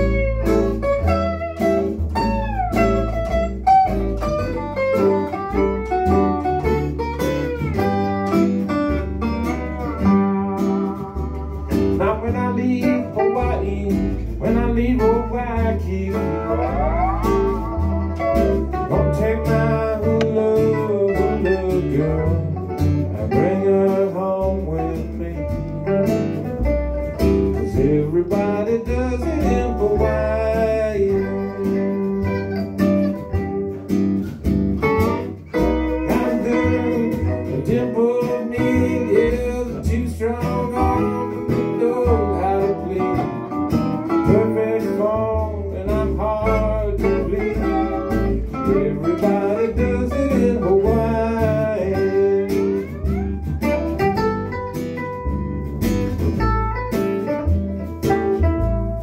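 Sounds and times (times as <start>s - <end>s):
steel guitar sliding notes: 0.0s - 23.7s, 24.7s - 59.0s
electric guitar: 0.0s - 59.0s
strummed acoustic guitar: 0.0s - 59.0s.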